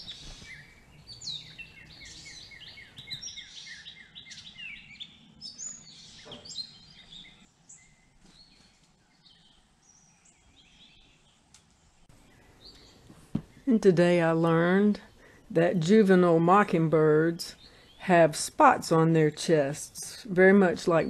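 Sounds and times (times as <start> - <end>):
songbirds singing and calling: 0.0 - 21.0.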